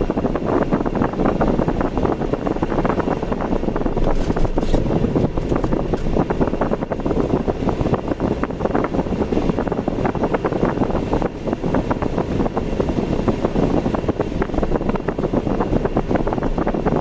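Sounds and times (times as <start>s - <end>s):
car road and wind noise: 0.0s - 17.0s
rough rapid buffeting: 1.1s - 17.0s.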